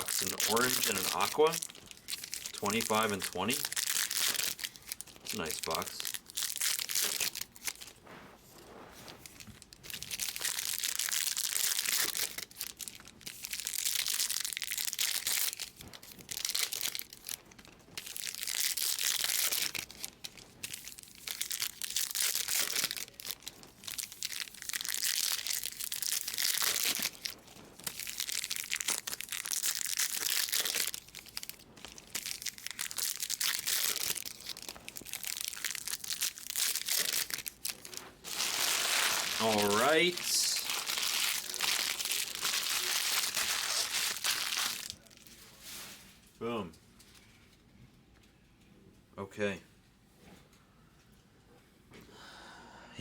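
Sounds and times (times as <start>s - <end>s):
wrappers tearing and crinkling: 0.0s - 46.1s.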